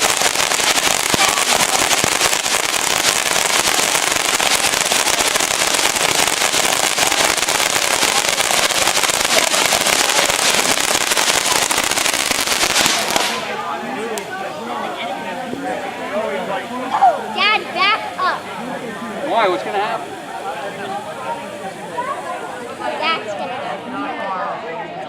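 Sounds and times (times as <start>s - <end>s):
firework crackling and hissing: 0.0s - 23.4s.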